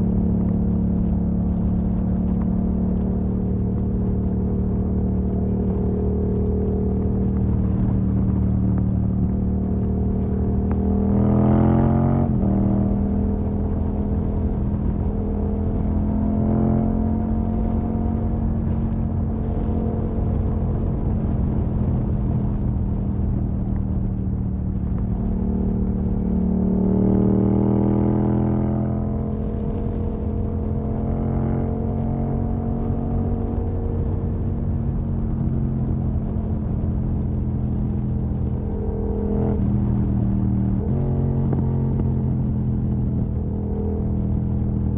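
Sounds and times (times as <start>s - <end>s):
motorcycle engine revving: 1.6s - 44.9s.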